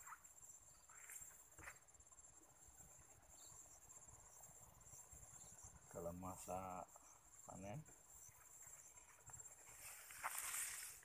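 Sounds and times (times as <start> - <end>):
high-pitched insect trilling: 0.0 - 11.0.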